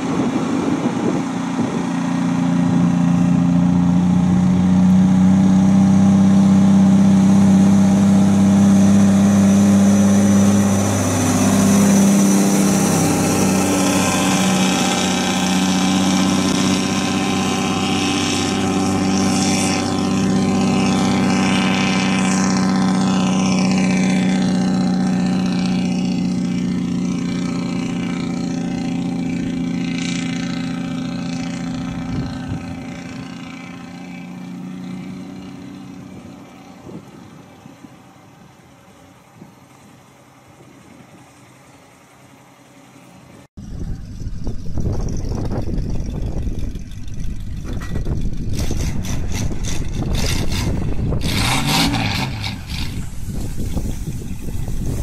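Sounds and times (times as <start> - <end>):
falling whines of passing trucks: 0.0 - 55.0
truck diesel engine under load: 0.0 - 55.0.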